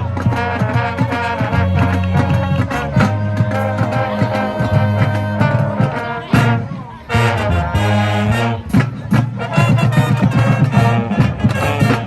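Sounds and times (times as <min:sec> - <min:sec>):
brass chords: 0:00.0 - 0:12.0.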